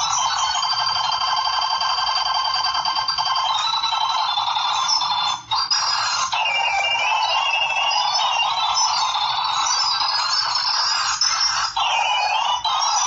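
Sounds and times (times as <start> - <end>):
rapid continuous clicking: 0.0 - 13.0.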